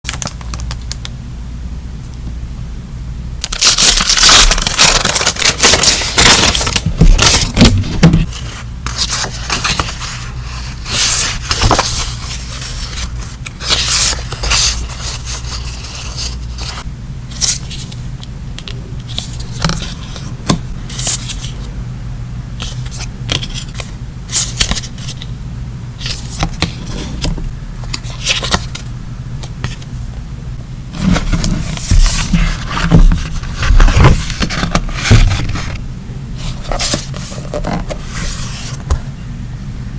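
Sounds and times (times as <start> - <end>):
paper crinkling and scraping: 0.0 - 1.1, 3.4 - 21.7, 22.6 - 25.3, 26.0 - 30.0, 30.9 - 35.8, 36.4 - 39.1
low steady hum: 0.1 - 39.9.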